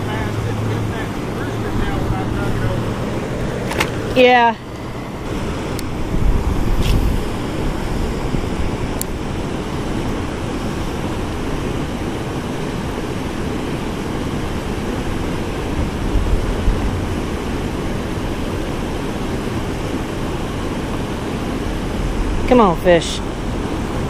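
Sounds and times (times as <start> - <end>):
river water rushing over a dam: 0.0 - 24.0.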